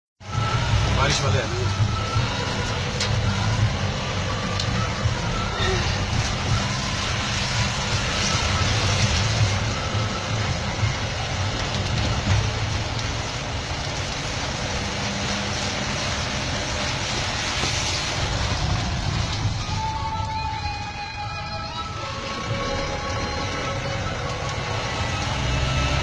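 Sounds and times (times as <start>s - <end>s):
vehicle engine drone inside cabin: 0.2s - 26.0s.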